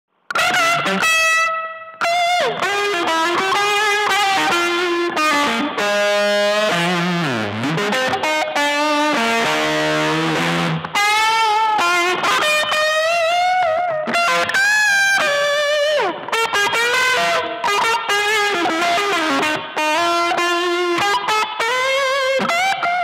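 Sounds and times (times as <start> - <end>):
electric guitar lead with vibrato: 0.3 - 23.0.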